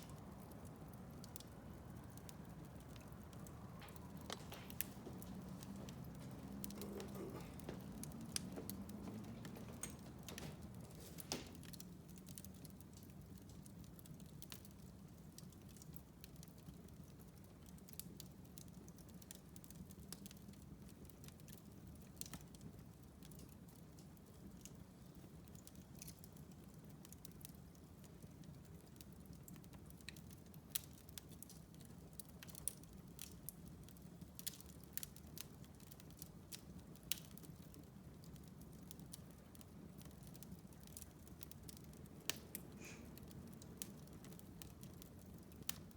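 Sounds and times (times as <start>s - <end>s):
low rumble of flames: 0.0s - 45.9s
wood fire crackling: 0.0s - 45.9s.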